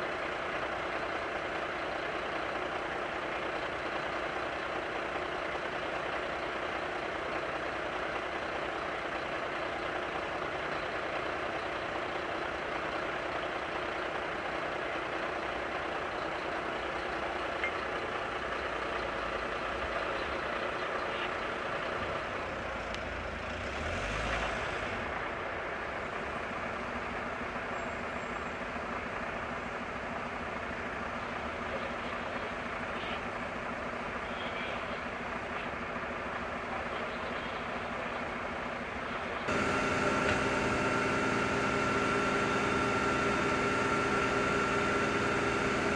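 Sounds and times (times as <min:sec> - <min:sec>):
fire truck engine idling: 0:00.0 - 0:23.7, 0:25.2 - 0:45.9.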